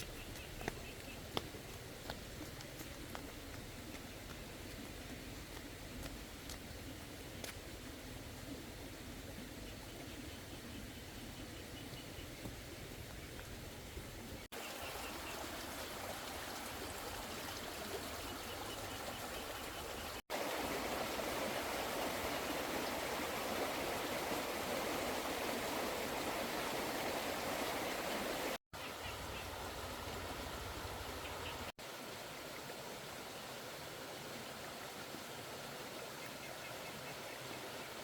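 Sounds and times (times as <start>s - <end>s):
rushing water: 0.0s - 38.0s.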